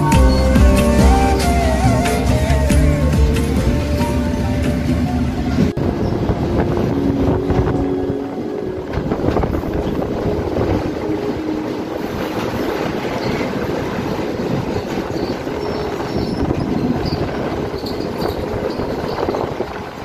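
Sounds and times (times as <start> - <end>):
train crossing steel bridge: 0.0 - 20.0
wind buffeting microphone: 0.0 - 20.0.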